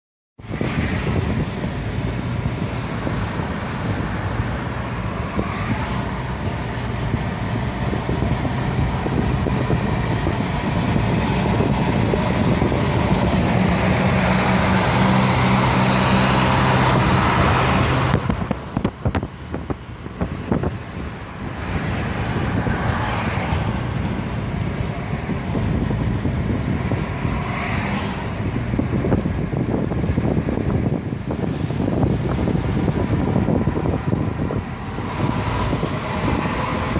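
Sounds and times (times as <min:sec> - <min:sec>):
vehicle engine and road noise: 0:00.4 - 0:36.9.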